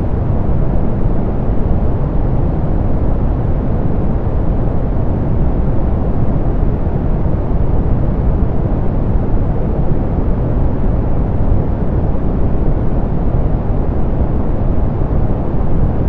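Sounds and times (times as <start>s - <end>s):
steady pink noise: 0.0s - 16.0s.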